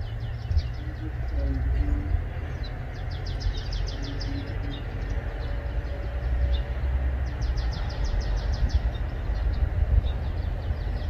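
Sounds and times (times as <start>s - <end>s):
bird singing high trills: 0.0s - 11.0s
steady low rumble: 0.0s - 11.0s.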